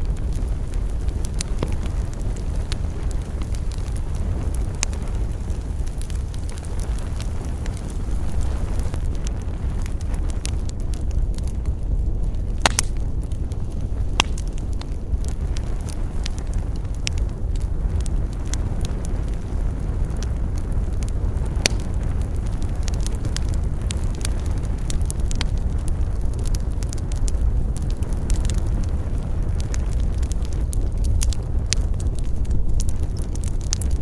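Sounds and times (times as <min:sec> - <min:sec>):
campfire crackling and popping: 0:00.0 - 0:34.0
steady low rumble: 0:00.0 - 0:34.0.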